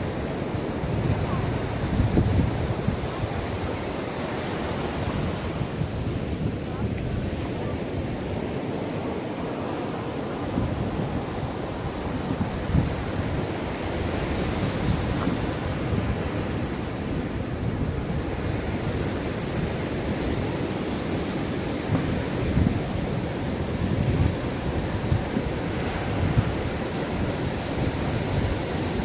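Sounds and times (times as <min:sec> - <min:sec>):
ocean waves on shore: 0:00.0 - 0:29.0
wind buffeting microphone: 0:00.0 - 0:29.0.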